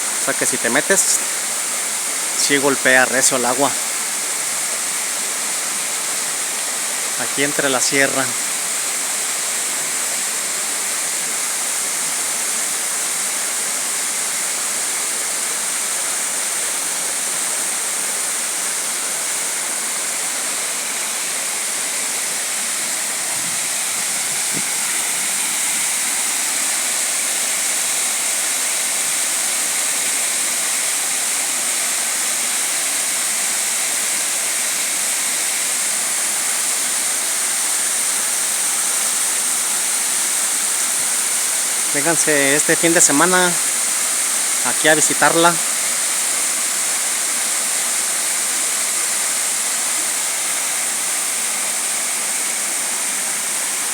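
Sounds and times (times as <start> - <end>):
waterfall pouring: 0.0 - 53.9.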